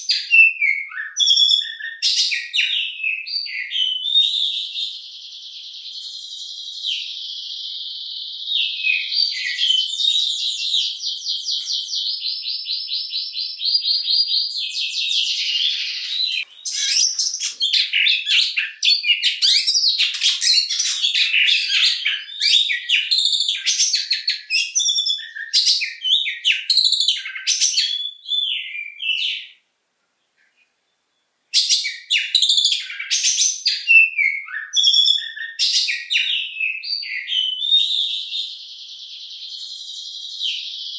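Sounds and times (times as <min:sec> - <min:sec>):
bird singing trills and whistles: 0:00.0 - 0:29.6, 0:30.5 - 0:40.9.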